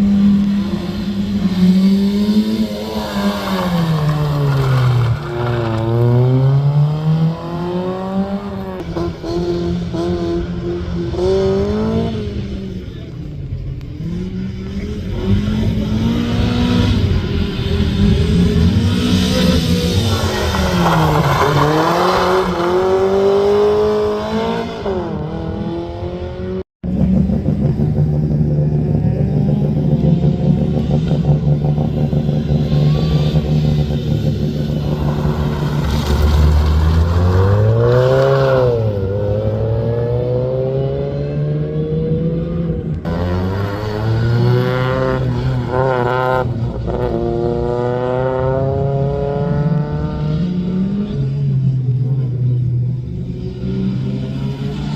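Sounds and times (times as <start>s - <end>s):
car engine revving and shifting gears: 0.0s - 13.1s, 13.8s - 54.9s.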